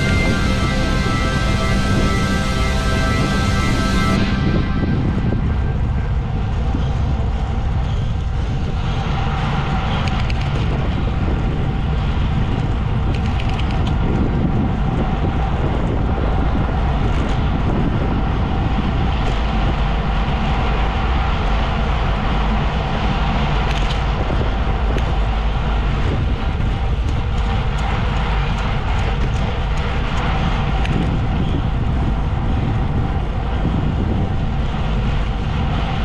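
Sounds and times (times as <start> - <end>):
vehicle engine rumble: 0.0 - 36.0
wind noise: 0.0 - 36.0.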